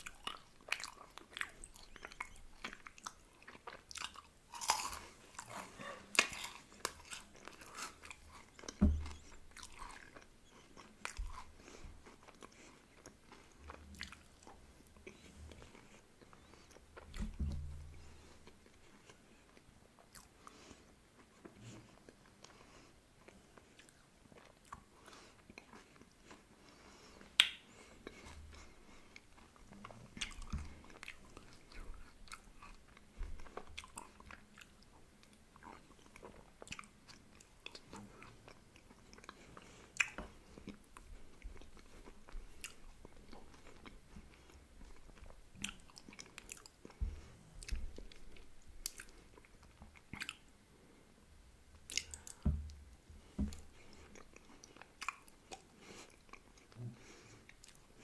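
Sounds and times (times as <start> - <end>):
wet chewing and biting: 0.0 - 20.5, 23.6 - 50.5, 51.9 - 56.8.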